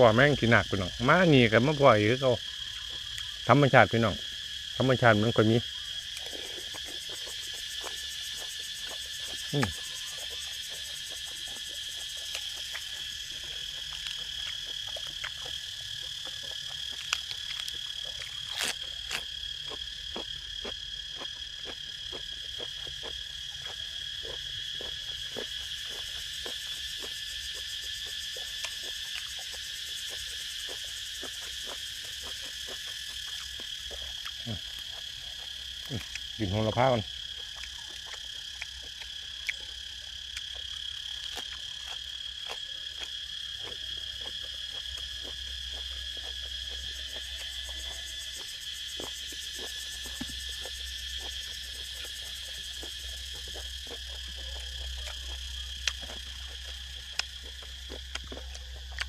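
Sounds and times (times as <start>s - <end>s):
insects chorus: 0.0s - 59.0s
person chewing and eating: 5.7s - 59.0s.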